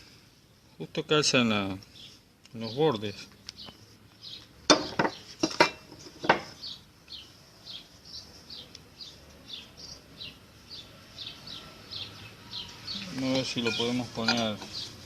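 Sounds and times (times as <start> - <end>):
bird chirping: 1.8 - 15.0.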